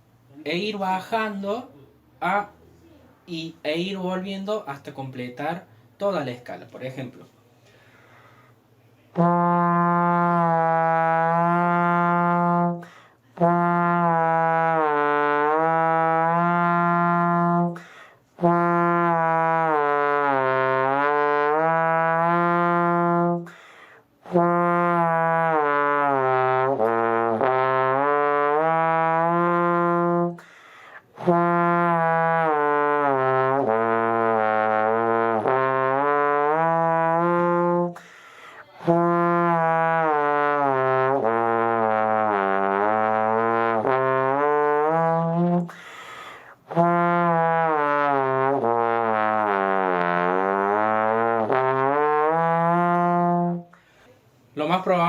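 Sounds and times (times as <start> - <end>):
trombone playing scale: 9.1 - 53.8.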